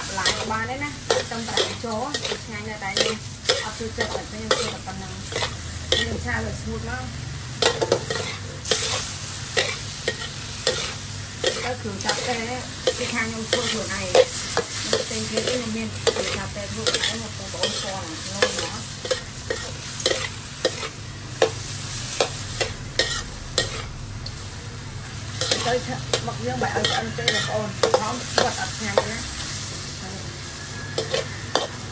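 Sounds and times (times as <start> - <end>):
metal spatula scraping a wok: 0.0 - 6.2, 7.6 - 24.0, 25.3 - 29.8, 30.6 - 31.9
pan sizzling: 0.0 - 31.9.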